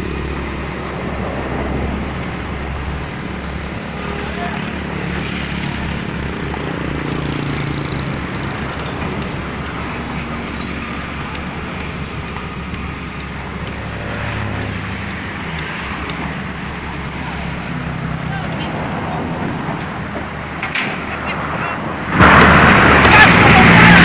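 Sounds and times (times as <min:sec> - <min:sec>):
large diesel engine running: 0:00.0 - 0:24.0.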